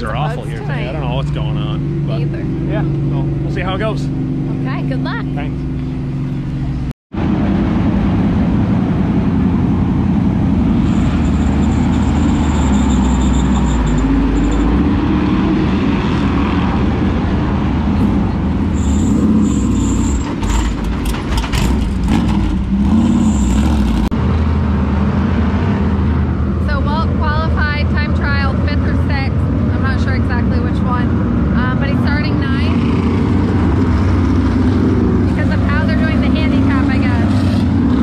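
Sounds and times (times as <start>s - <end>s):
race car engine idling and revving: 0.0s - 38.0s.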